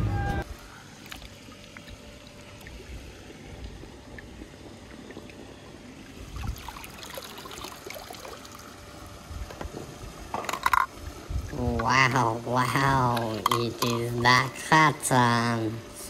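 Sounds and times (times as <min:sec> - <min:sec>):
pool water sloshing: 0:00.4 - 0:16.0.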